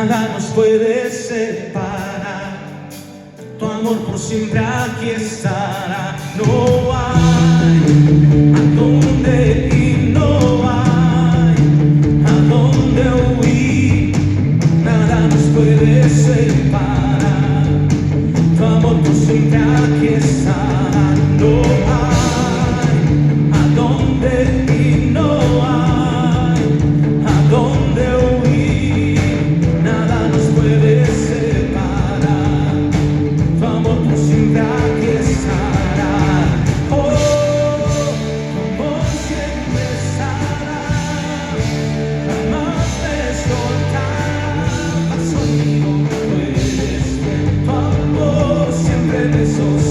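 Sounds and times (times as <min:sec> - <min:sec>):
guitar: 0:00.0 - 0:49.9
person singing: 0:00.0 - 0:49.9
steady drum beat: 0:05.7 - 0:49.9.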